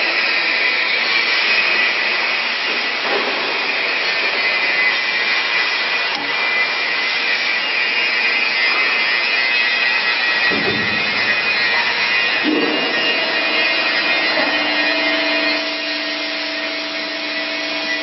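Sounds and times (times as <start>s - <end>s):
machinery noise with high whine: 0.0s - 18.0s.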